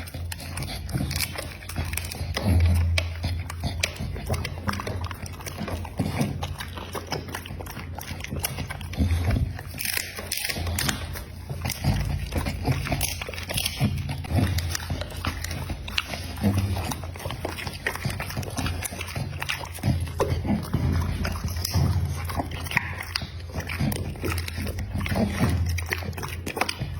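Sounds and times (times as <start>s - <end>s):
dog chewing and crunching: 0.0s - 26.9s.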